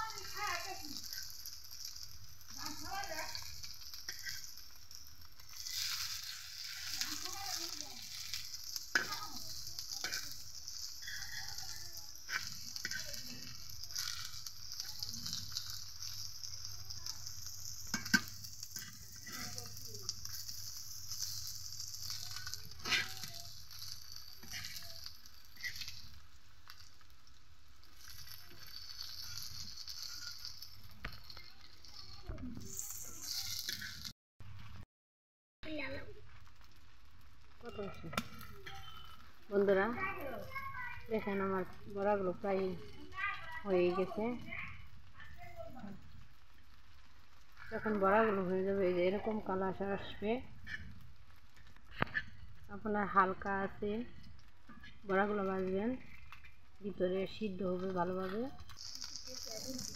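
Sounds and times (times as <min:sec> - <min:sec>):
fritters sizzling in oil: 0:00.0 - 0:34.8, 0:35.6 - 0:59.9.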